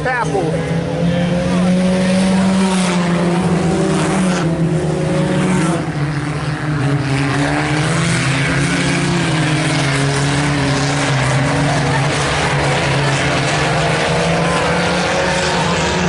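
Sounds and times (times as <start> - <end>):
race car engines running hard: 0.0 - 16.0.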